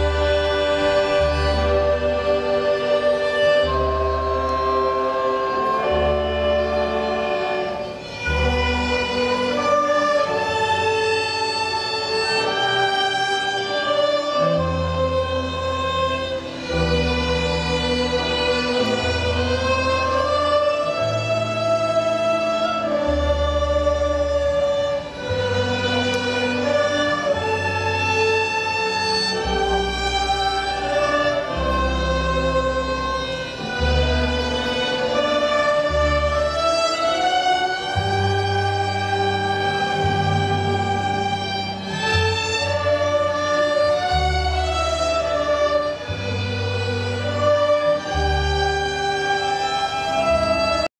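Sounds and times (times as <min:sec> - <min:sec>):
orchestra playing long notes: 0:00.0 - 0:50.9.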